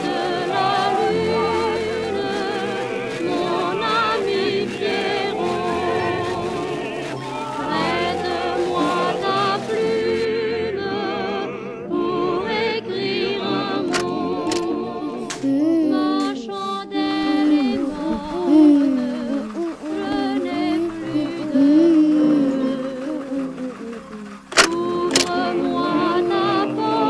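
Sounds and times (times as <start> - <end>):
operatic singing with vibrato: 0.0 - 27.0.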